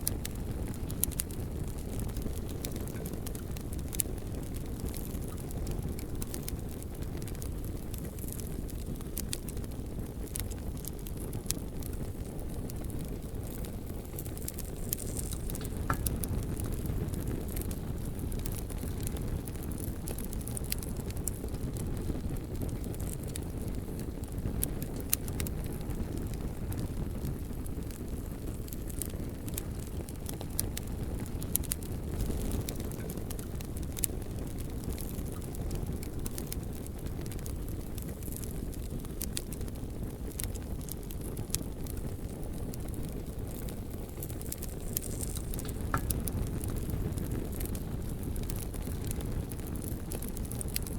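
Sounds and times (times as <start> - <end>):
bonfire roaring: 0.0 - 50.9
wood crackling and popping: 0.0 - 50.9.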